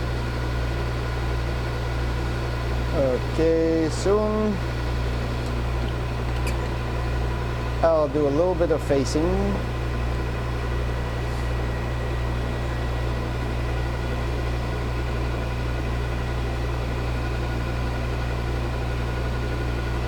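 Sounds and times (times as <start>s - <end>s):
metal lathe humming: 0.0s - 20.0s.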